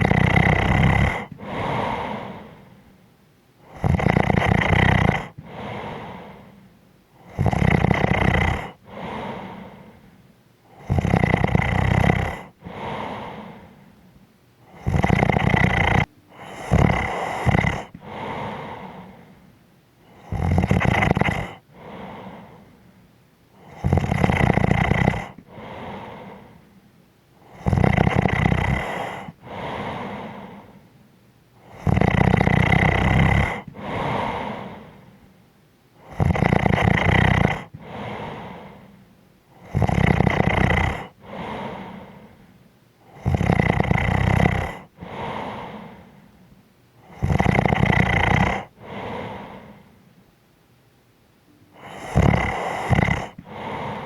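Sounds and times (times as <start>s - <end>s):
person snoring: 0.0s - 2.8s, 3.6s - 6.6s, 7.2s - 10.1s, 10.7s - 13.9s, 14.6s - 22.8s, 23.6s - 26.7s, 27.4s - 30.9s, 31.6s - 35.2s, 36.0s - 46.4s, 47.0s - 50.0s, 51.7s - 54.0s.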